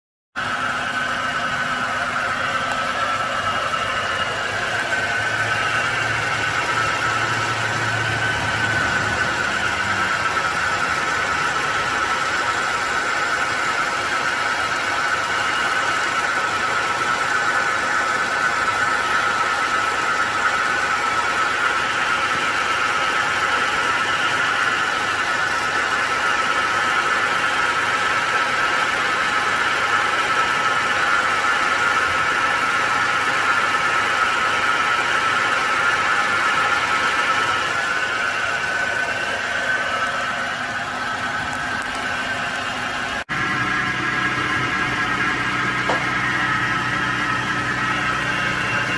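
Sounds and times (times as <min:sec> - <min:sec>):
car engine idling: 0:00.4 - 0:48.9
compressor high-pitched whine: 0:00.4 - 0:48.9.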